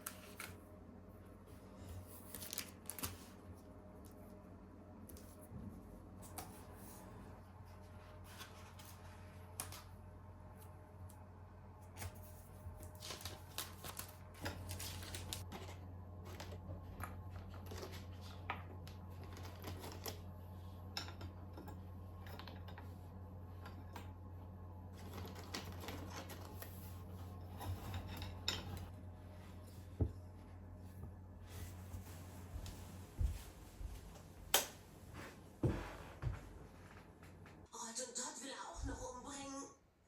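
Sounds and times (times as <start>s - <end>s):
steady low hum: 0.0s - 37.7s.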